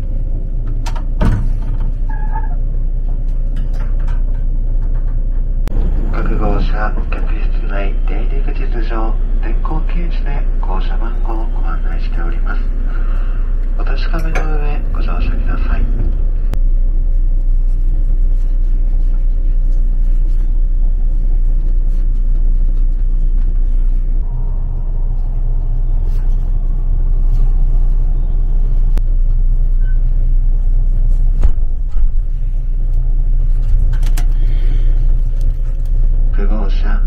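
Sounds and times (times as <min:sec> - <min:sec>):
train carriage interior rumble: 0:00.0 - 0:37.0.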